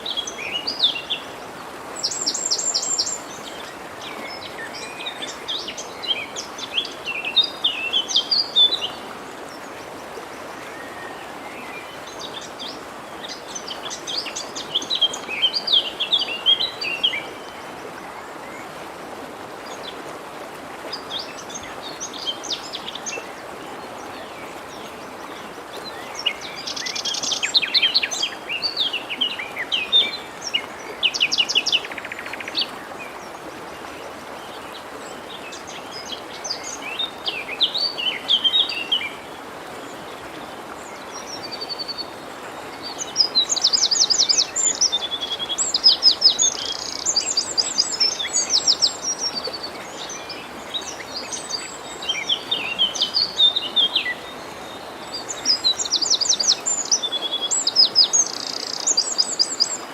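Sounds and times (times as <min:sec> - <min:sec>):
forest stream rushing: 0:00.0 - 0:59.9.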